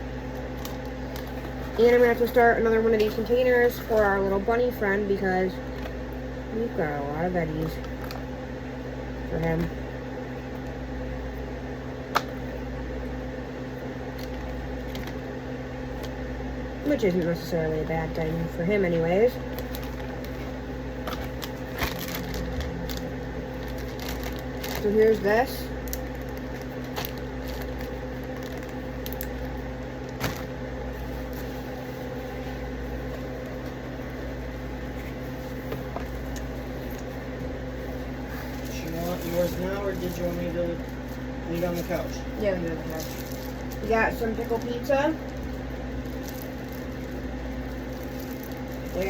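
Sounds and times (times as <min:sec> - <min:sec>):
kitchen appliance humming: 0:00.0 - 0:49.0.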